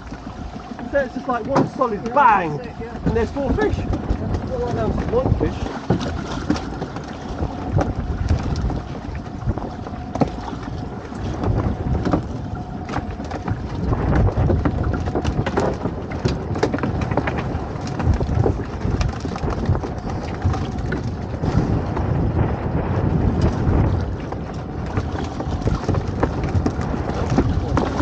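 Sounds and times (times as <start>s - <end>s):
water slapping: 0.0s - 28.0s
wind buffeting microphone: 0.0s - 28.0s.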